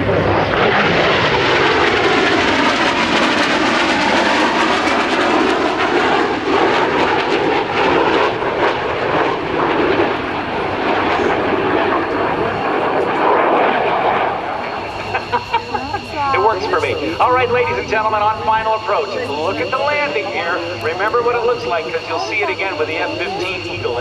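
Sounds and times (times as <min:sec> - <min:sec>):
jet engines roaring in flyby: 0:00.0 - 0:24.0.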